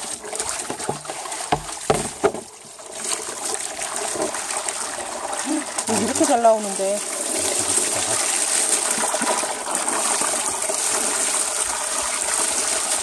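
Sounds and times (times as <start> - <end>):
water pouring from hose into basin: 0.0 - 13.0.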